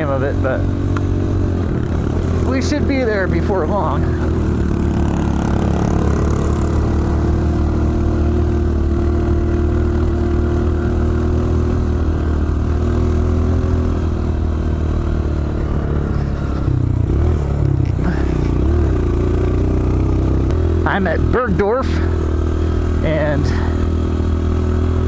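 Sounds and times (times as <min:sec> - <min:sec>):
motorbike engine running steadily: 0:00.0 - 0:25.0.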